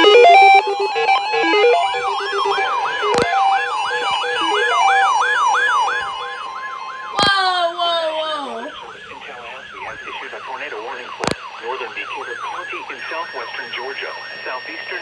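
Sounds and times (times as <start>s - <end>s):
electronic siren: 0.0s - 15.0s.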